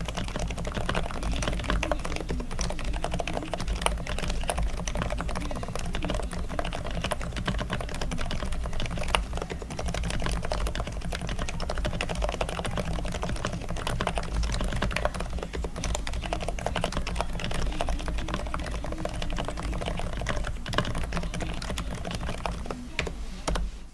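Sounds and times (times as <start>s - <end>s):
fast keyboard typing: 0.0s - 23.9s.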